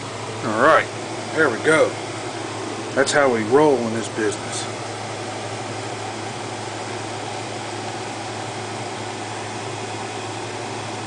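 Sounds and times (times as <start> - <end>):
computer fan and hard drive whir: 0.0 - 11.0.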